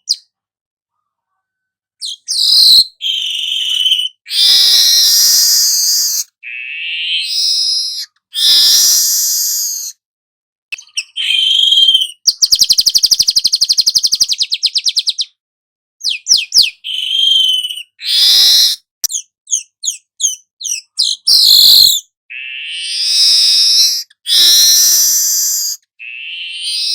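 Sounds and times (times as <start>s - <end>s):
weaver bird song: 2.0s - 9.9s, 10.7s - 15.4s, 16.0s - 26.9s.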